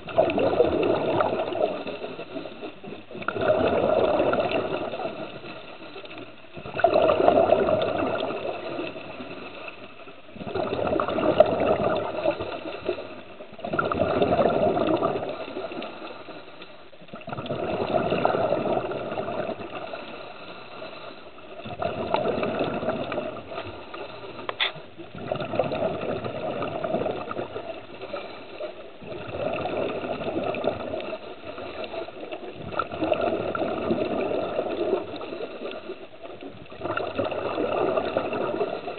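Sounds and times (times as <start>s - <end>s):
diver exhaling bubbles underwater: 0.0s - 5.7s, 6.6s - 9.6s, 10.3s - 16.2s, 17.1s - 38.9s.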